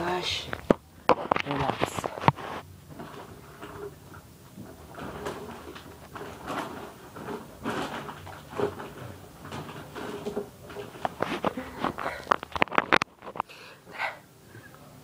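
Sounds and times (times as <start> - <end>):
handling noise rustling and scraping: 0.4 - 13.6.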